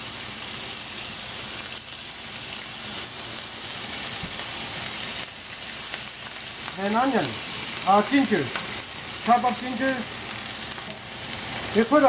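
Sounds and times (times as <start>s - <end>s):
garlic sizzling in oil: 0.0s - 12.0s.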